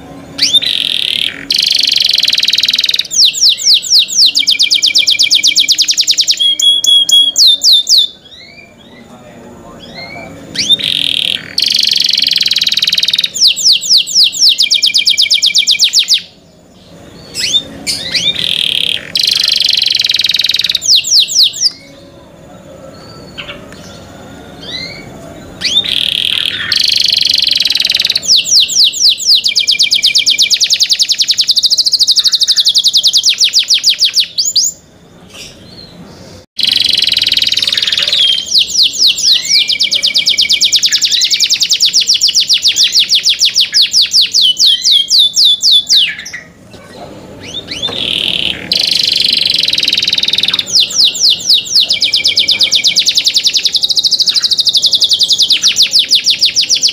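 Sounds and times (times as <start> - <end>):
canary singing in fast trills: 0.0 - 56.9.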